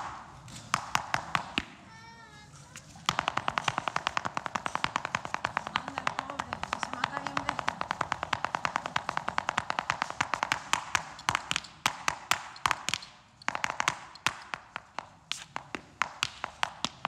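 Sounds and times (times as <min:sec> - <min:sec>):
shoes tapping on stage floor: 0:00.0 - 0:01.8, 0:02.7 - 0:17.0.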